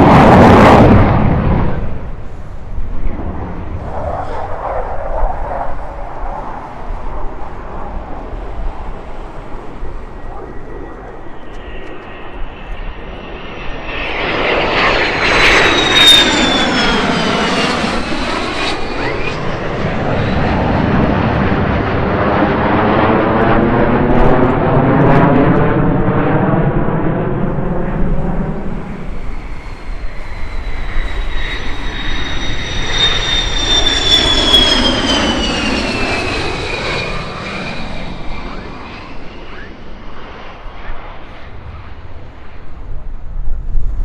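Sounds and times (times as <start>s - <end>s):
fighter jet passing: 0.0s - 44.0s.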